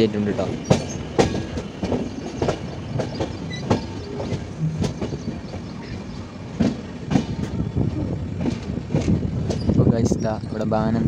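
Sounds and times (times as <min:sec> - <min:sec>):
train wheels clacking: 0:00.1 - 0:07.7, 0:08.3 - 0:09.9.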